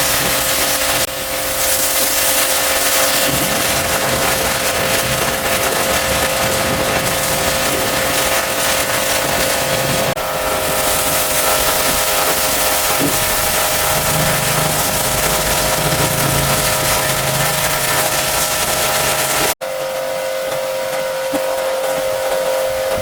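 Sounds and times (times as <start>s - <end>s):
loud rushing hiss: 0.0s - 19.6s
cleaning machine motor humming: 0.0s - 23.0s.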